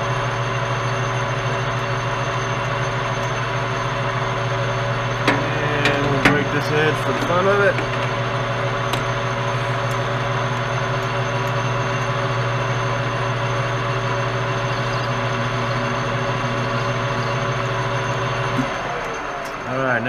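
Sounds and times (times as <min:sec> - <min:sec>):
lathe tool cutting metal: 0:00.0 - 0:20.0
metal lathe humming: 0:00.0 - 0:20.0.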